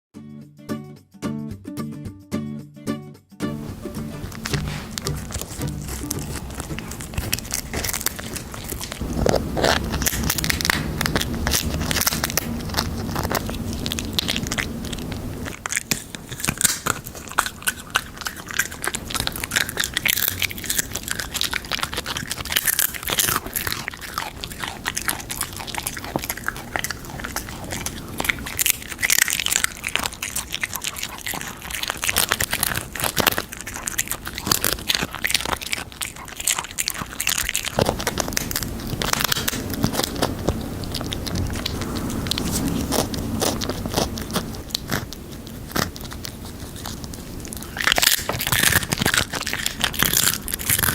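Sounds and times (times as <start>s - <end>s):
pets crunching chips: 3.5s - 50.9s.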